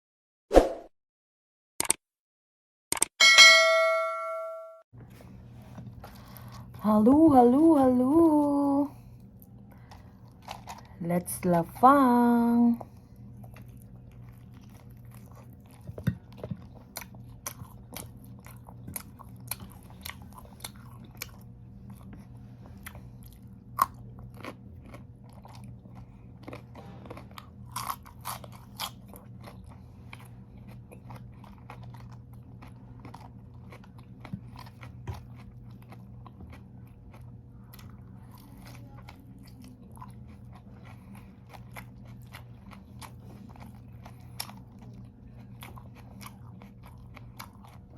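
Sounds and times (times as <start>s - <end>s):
faint low hum: 3.4s - 47.9s
crunching and chewing vegetables: 5.1s - 47.9s.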